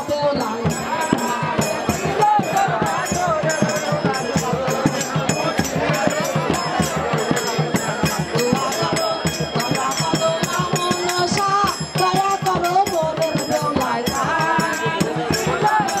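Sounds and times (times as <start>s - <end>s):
fast drum beat: 0.0s - 16.0s
rattling percussion: 0.0s - 16.0s.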